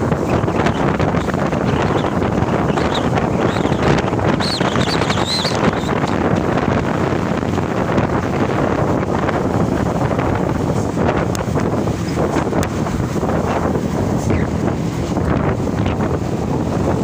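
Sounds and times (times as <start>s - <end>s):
truck running: 0.0s - 17.0s
wind buffeting microphone: 0.0s - 17.0s.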